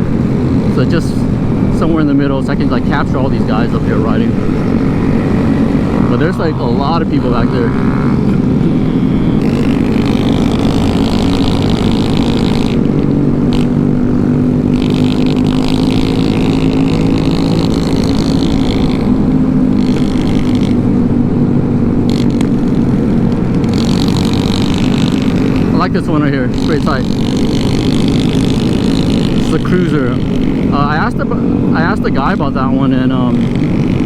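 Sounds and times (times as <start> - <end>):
motorcycle engine steady note: 0.0 - 34.0
other motorbike engines: 0.0 - 34.0.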